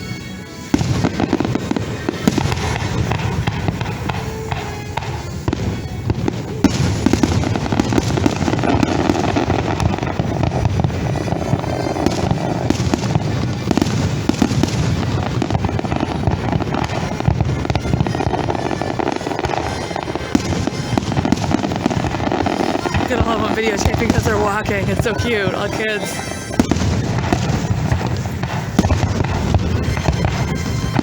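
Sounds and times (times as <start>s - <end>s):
fireworks bursting and crackling: 0.0s - 31.0s
music: 0.0s - 31.0s.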